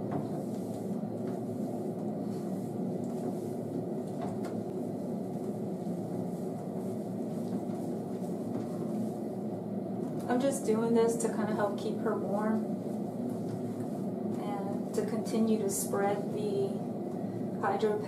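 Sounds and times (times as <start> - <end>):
low rumbling hum: 0.0 - 18.0.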